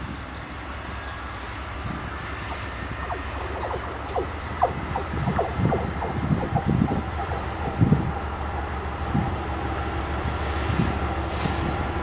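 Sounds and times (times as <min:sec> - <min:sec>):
diesel locomotive engines rumbling: 0:00.0 - 0:12.0.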